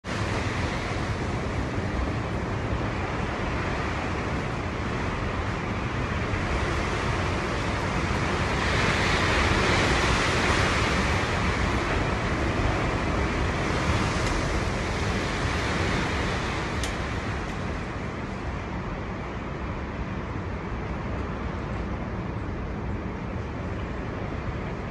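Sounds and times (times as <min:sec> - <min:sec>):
storm wind buffeting microphone: 0:00.0 - 0:24.9.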